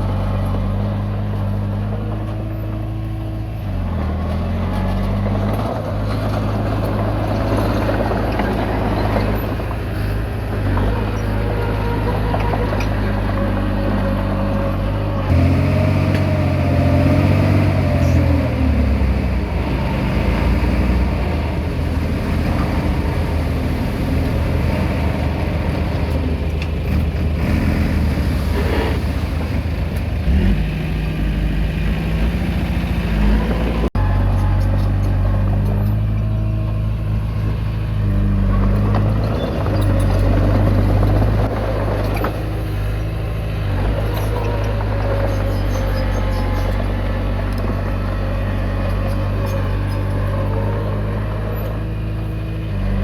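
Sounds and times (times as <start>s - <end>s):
bulldozer diesel engine working: 0.0s - 53.0s.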